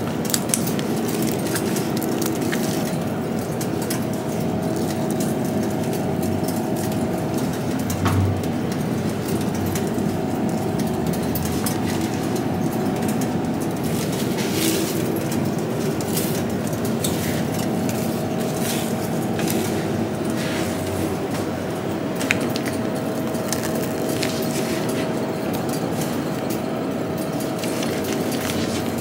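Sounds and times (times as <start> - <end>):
low machine hum: 0.0 - 29.0
paper rustling and clicks: 0.1 - 21.5, 22.1 - 29.0.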